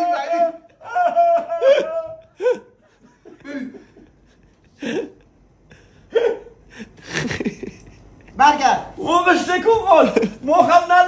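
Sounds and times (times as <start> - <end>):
people laughing: 0.0 - 8.4, 9.3 - 11.0.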